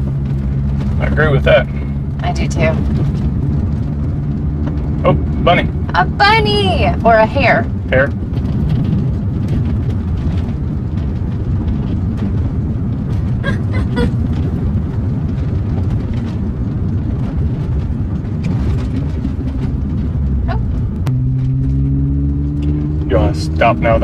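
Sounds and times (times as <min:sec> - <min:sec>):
car road noise rumble: 0:00.0 - 0:24.0.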